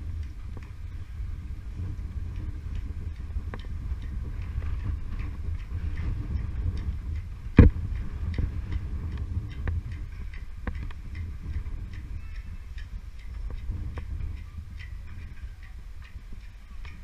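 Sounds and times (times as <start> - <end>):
wind rumbling on microphone: 0.0 - 17.0
light clicks and taps: 2.3 - 17.0.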